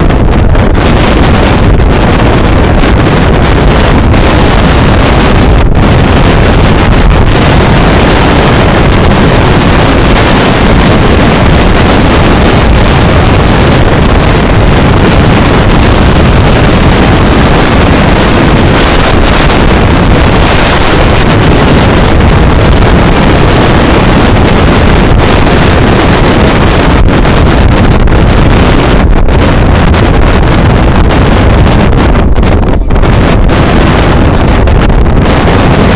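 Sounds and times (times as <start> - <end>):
strong wind on microphone: 0.0 - 35.9.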